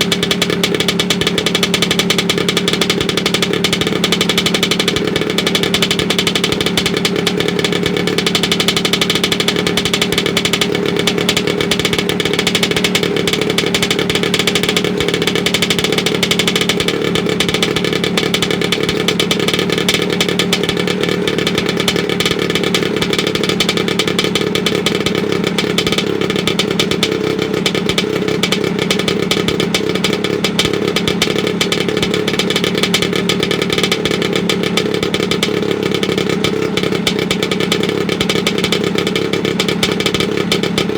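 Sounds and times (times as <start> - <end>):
scooter engine running steadily: 0.0 - 40.9.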